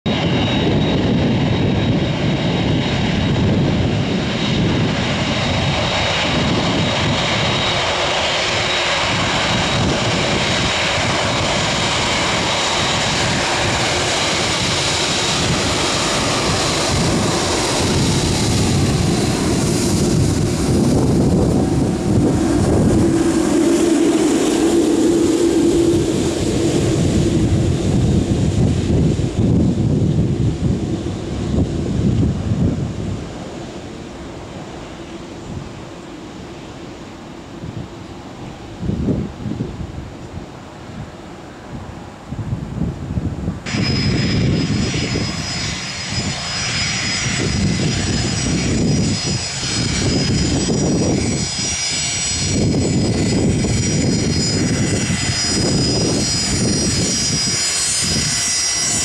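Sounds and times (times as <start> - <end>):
airliner engines passing: 0.1 - 59.0.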